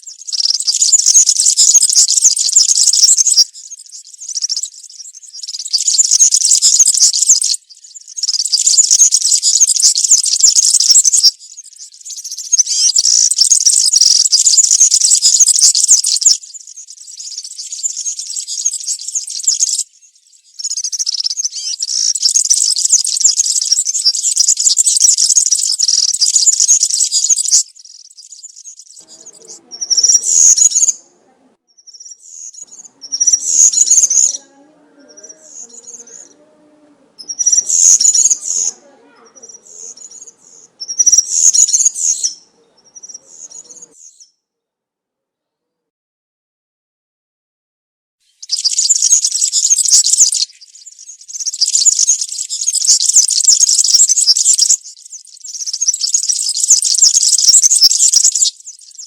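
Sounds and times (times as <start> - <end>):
bird singing high jingling twitter: 0.0 - 44.4, 48.2 - 59.0.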